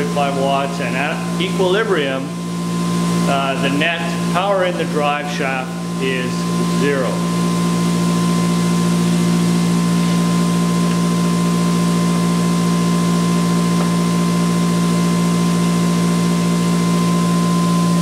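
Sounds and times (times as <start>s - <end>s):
machine hum with higher tone: 0.0s - 18.0s.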